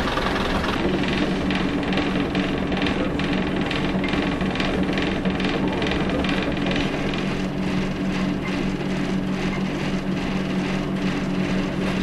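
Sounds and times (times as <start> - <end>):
train diesel engine running: 0.0 - 12.0.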